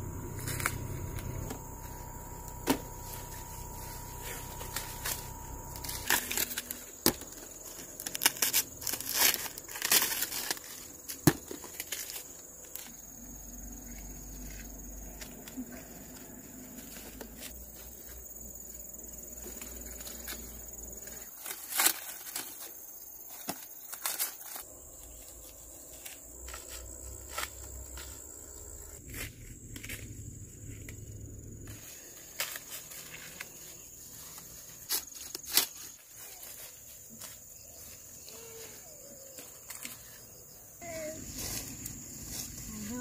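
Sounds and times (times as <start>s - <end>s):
dry corn stalks rustling: 0.0s - 31.0s, 31.6s - 43.0s
insect chirring: 0.0s - 43.0s.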